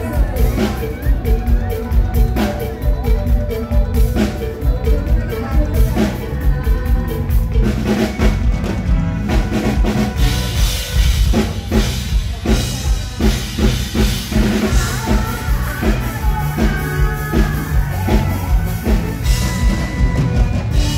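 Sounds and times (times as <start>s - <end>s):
live band playing: 0.0s - 20.9s.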